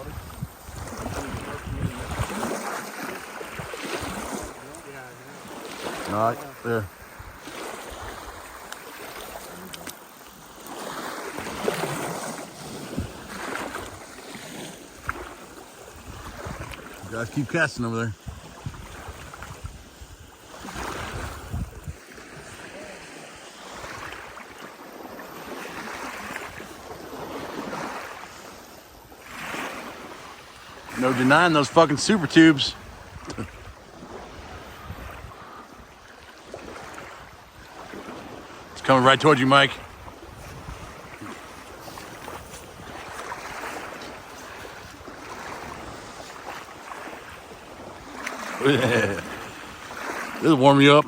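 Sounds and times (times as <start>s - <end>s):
wind buffeting microphone: 0.0s - 2.6s, 3.4s - 9.6s, 10.6s - 22.6s, 25.0s - 48.5s
lake water lapping: 0.0s - 51.0s.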